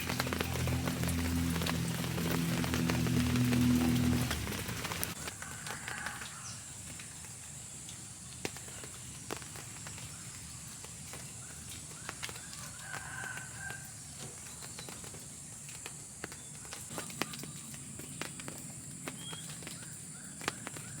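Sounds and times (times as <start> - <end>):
rain drops tapping: 0.0 - 21.0.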